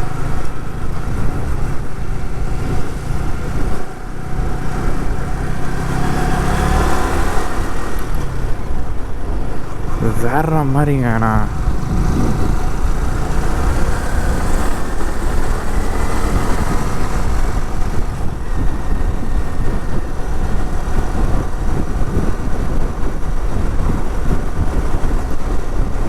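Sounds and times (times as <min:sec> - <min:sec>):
motorcycle running: 0:00.0 - 0:26.0
wind buffeting microphone: 0:00.0 - 0:26.0.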